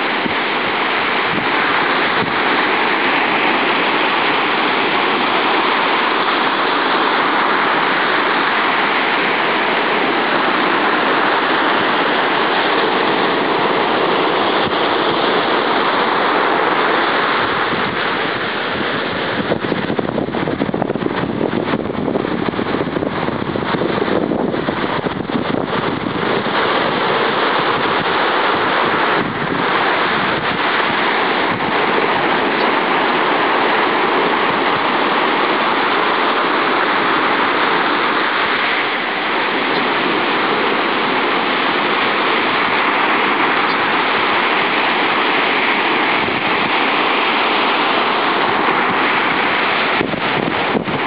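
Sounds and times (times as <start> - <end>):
surf breaking on beach: 0.0 - 51.0.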